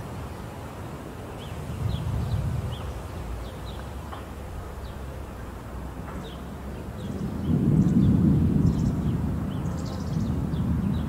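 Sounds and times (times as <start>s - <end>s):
outdoor hiss: 0.0s - 11.0s
bird chirping: 1.3s - 11.0s
distant thunder rumble: 1.3s - 11.0s.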